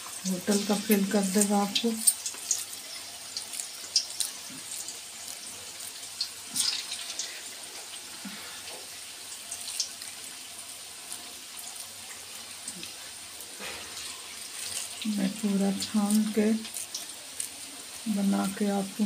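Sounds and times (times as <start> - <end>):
food deep-frying in oil: 0.0 - 19.0
oil crackles and pops: 0.0 - 19.0.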